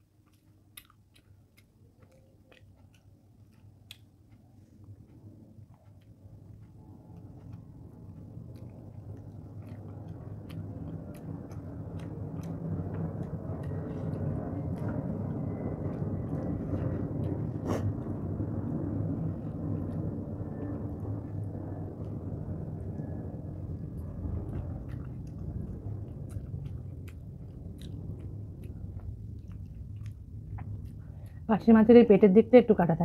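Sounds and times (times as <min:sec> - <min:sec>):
close chewing: 0:00.0 - 0:31.5
low rumble: 0:04.6 - 0:33.0.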